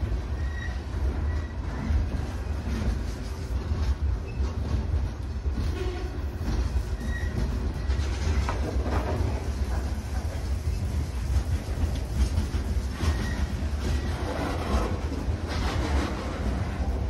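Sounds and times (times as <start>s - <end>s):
clanks and rattles of train cars: 0.0s - 17.0s
freight train rumbling on rails: 0.0s - 17.0s.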